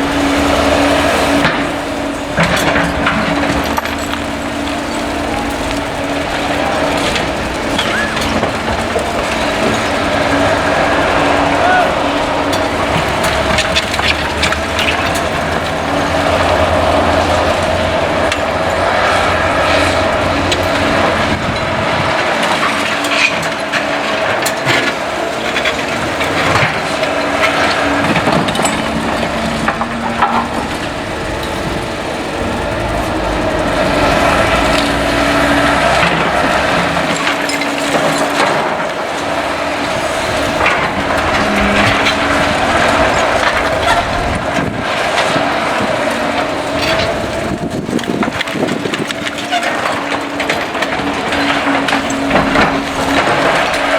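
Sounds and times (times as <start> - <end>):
demolition debris cracking and crunching: 0.0 - 53.9
excavator diesel engines running: 0.0 - 53.9.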